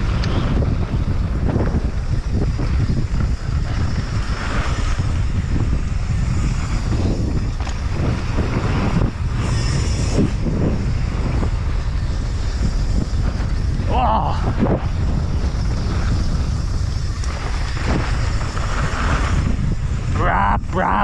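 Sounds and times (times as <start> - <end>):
bike clicks and rattles: 0.0 - 21.0
tyres rumbling on dirt trail: 0.0 - 21.0
wind buffeting microphone: 0.0 - 21.0.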